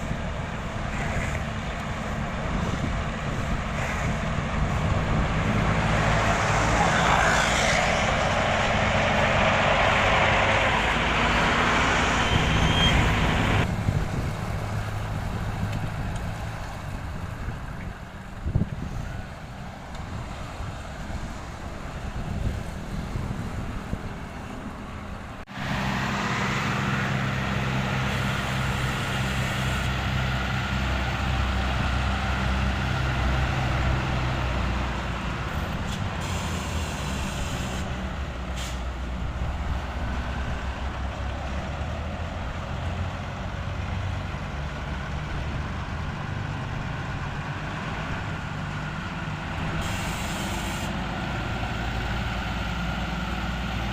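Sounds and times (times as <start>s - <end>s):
diesel construction machinery: 0.0s - 53.9s.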